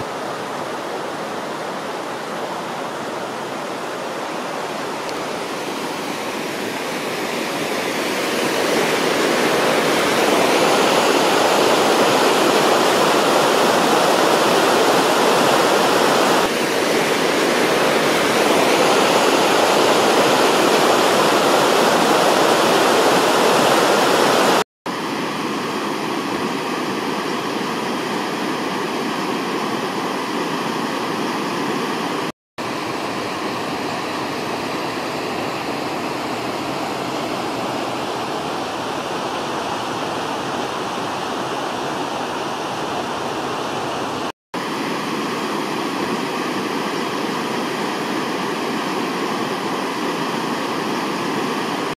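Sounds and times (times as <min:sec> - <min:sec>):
stream rushing: 0:00.0 - 0:51.9.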